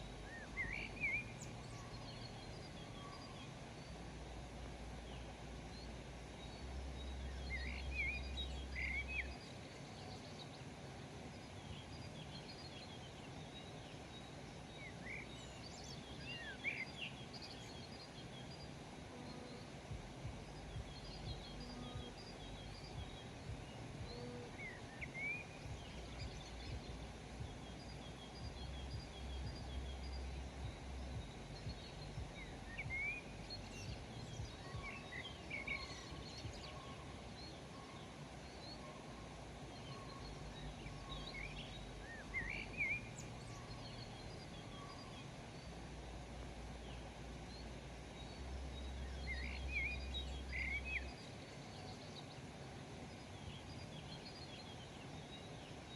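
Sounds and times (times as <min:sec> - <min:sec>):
low background rumble: 0:00.0 - 0:55.9
songbirds chirping: 0:00.0 - 0:55.9.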